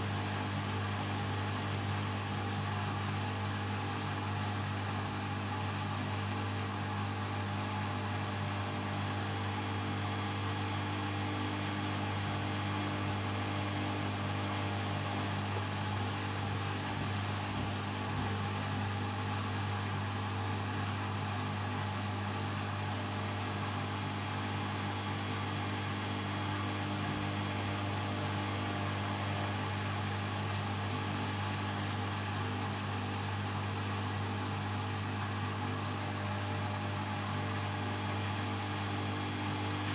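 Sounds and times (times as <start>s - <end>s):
washing machine humming: 0.0s - 6.1s, 11.0s - 39.9s.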